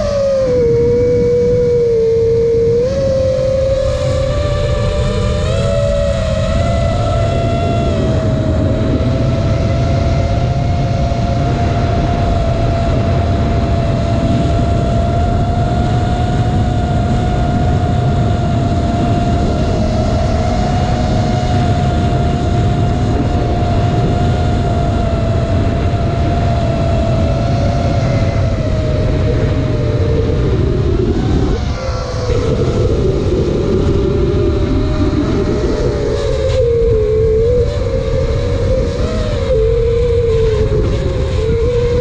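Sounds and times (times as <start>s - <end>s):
drone motors whining: 0.0s - 42.0s
wind rumble on microphone: 0.0s - 42.0s.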